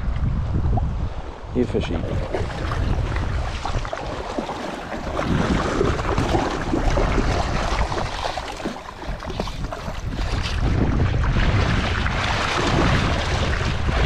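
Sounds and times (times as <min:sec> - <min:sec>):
wind buffeting microphone: 0:00.0 - 0:14.0
river water splashing: 0:02.0 - 0:14.0.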